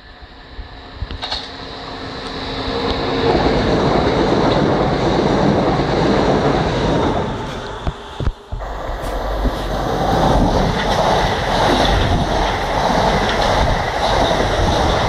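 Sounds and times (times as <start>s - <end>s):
train wheels rushing on rails: 0.2s - 15.0s.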